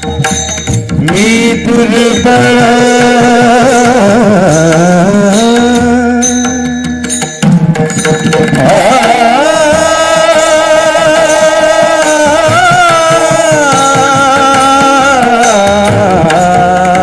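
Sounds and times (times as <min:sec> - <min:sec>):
hand drum strokes: 0:00.0 - 0:17.0
instrumental accompaniment: 0:00.0 - 0:17.0.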